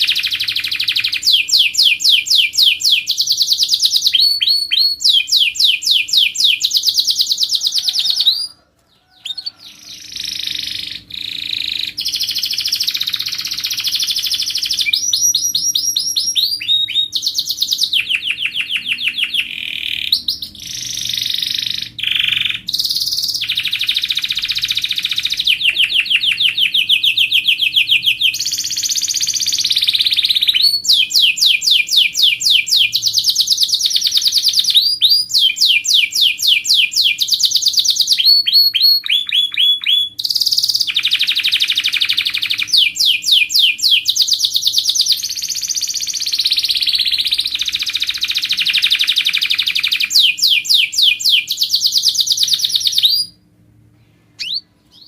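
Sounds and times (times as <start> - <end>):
canary singing trills: 0.0 - 53.4, 54.4 - 55.0.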